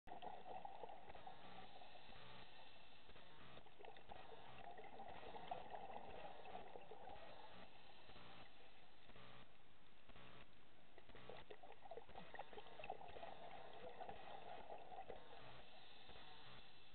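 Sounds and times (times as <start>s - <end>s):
faint low hums: 0.1s - 16.9s
muffled underwater wash: 0.1s - 16.9s.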